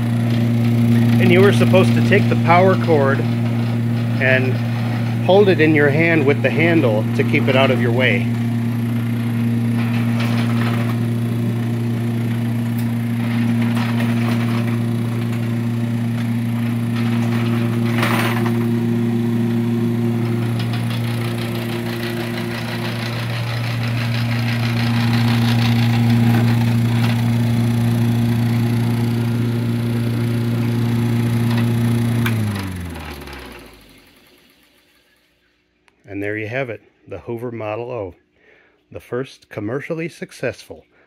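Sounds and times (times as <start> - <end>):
vacuum cleaner motor humming: 0.0 - 35.2.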